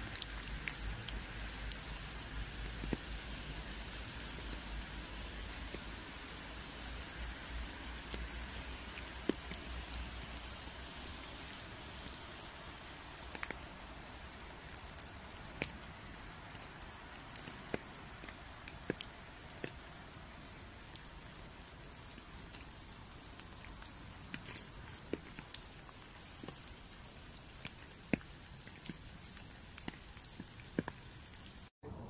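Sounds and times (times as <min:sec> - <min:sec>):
raindrops tapping on leaves: 0:00.0 - 0:31.7
light rain hiss: 0:00.0 - 0:32.0.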